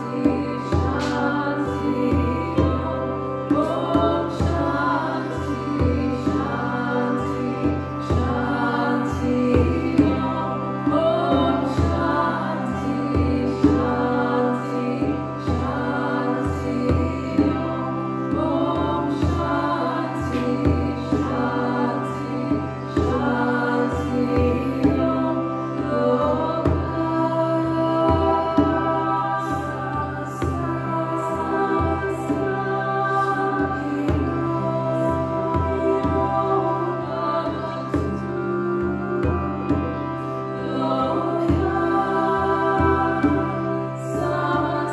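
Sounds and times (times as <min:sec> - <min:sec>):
woman singing: 0:00.0 - 0:44.9.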